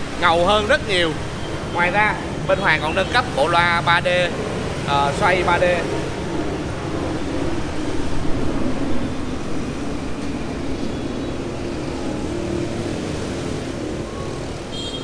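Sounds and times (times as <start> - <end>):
vehicle noise: 0.0 - 15.0.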